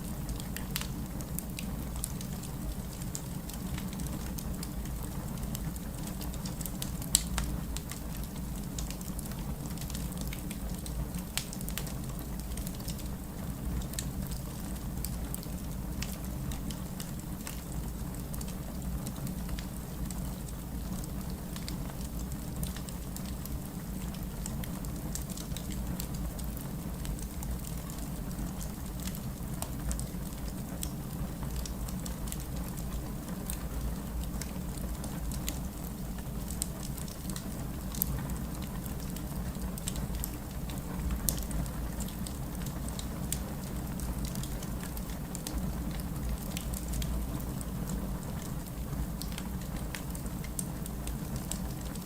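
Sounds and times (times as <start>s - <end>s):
steady rain: 0.0s - 52.0s
wood fire crackling: 0.0s - 52.0s.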